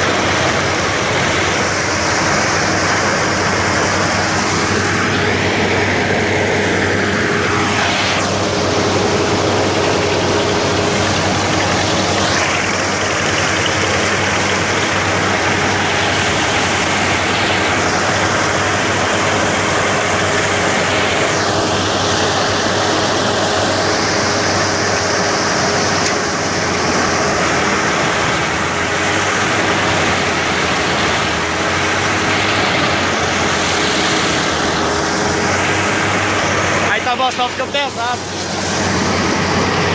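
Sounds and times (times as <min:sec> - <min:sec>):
mechanical drone with hiss and hum: 0:00.0 - 0:39.9.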